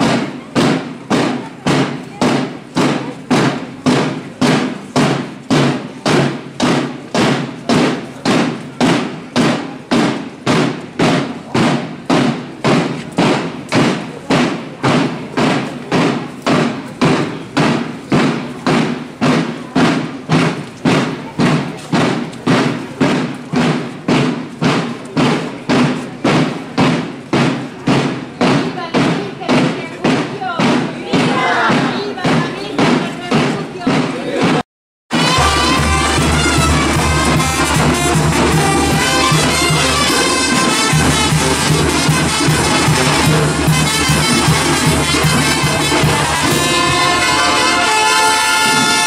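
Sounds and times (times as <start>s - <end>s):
drum beaten in steady rhythm: 0.0s - 49.0s.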